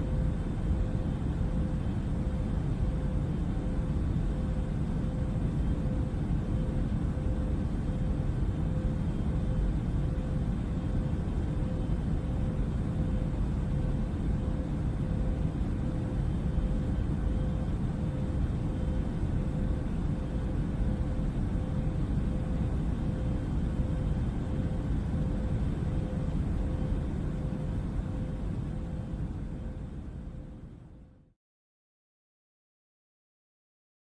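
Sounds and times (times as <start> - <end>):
airliner cabin engine rumble: 0.0 - 31.1
faint steady hum: 0.0 - 31.3.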